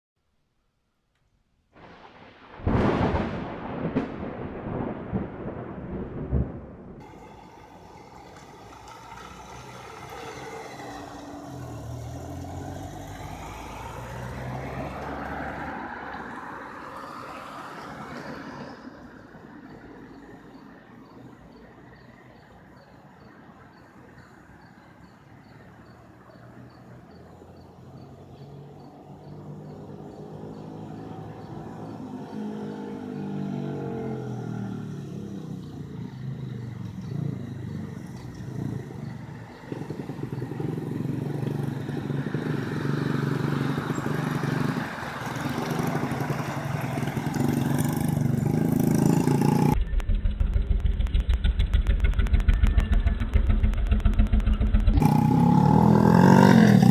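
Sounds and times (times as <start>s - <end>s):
vehicle engine approaching: 6.9s - 21.2s, 25.4s - 56.9s.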